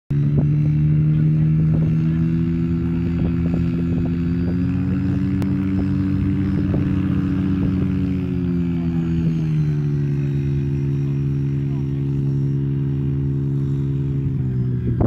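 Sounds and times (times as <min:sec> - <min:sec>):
aircraft piston engine idling: 0:00.1 - 0:15.0.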